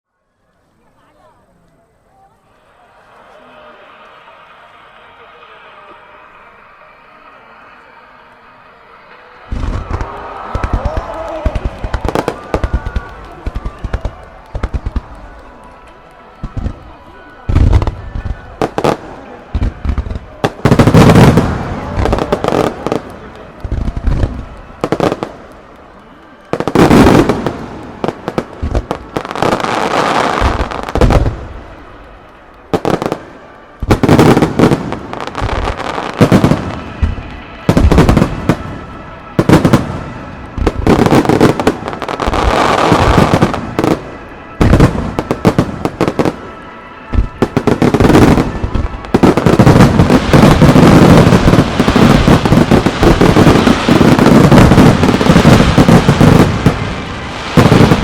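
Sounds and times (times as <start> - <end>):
fireworks crackling: 0.2 - 58.0
fireworks booming: 9.2 - 25.8, 26.5 - 58.0.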